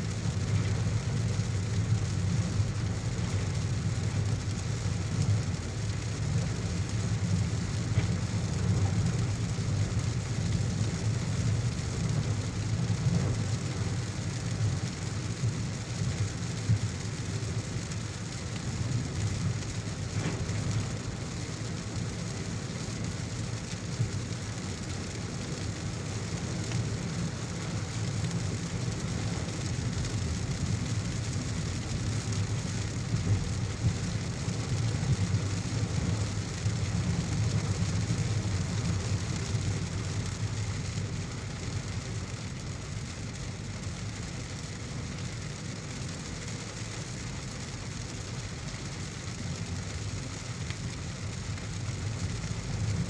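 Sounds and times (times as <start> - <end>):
engine and tyres on wet road: 0.0 - 53.0
heavy rain on a car: 0.0 - 53.0.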